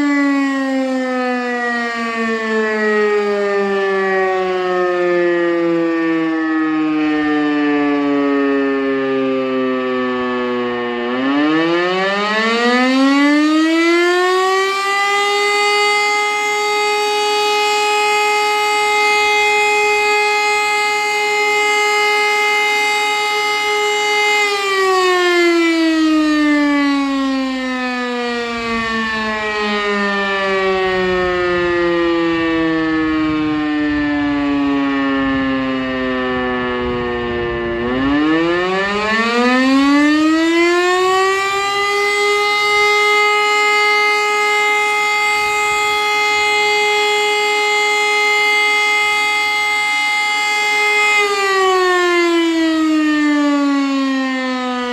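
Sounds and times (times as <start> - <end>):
siren winding up and down: 0.0 - 54.9.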